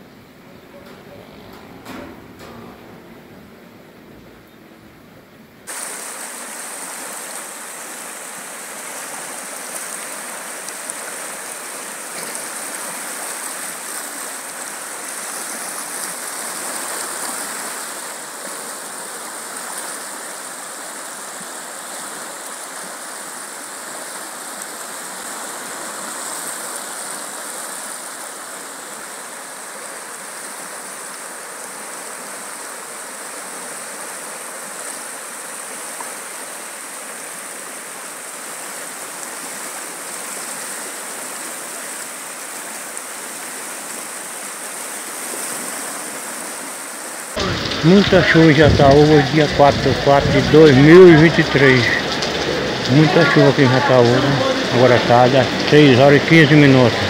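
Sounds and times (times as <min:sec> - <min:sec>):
floodwater rushing down creek: 0:00.0 - 0:57.0.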